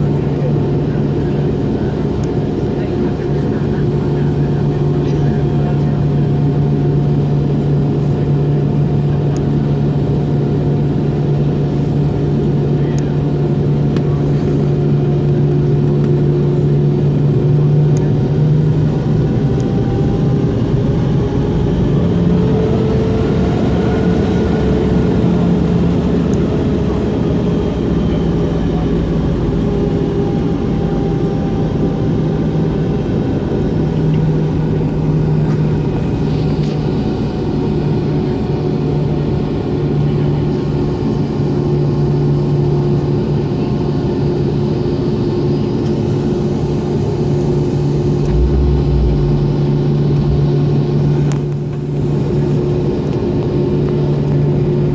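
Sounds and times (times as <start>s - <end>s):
jet engines droning in cabin: 0.0s - 54.9s.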